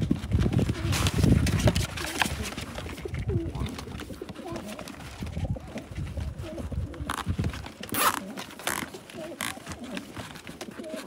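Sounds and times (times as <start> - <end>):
cardboard rustling: 0.0 - 11.0
pigeons cooing: 0.5 - 11.0.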